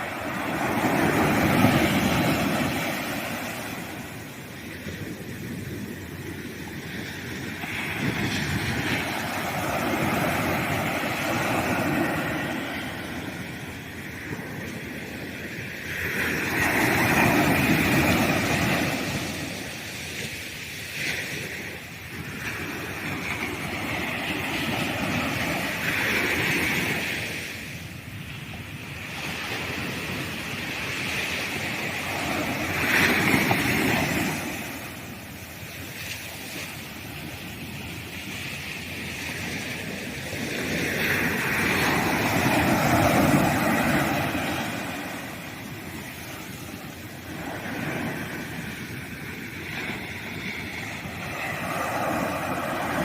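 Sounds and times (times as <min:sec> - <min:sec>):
sea waves breaking on beach: 0:00.0 - 0:53.0.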